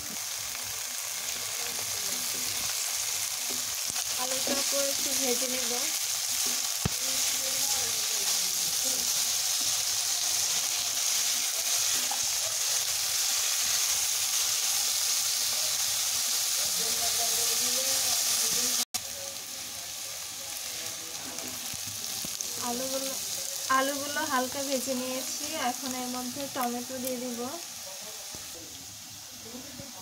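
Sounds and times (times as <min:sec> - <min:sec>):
potatoes and onions sizzling in oil: 0:00.0 - 0:30.0.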